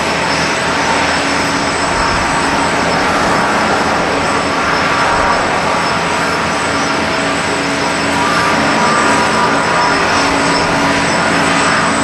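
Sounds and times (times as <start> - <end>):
constant rushing noise: 0.0 - 12.0
jet engine whine: 0.0 - 12.0.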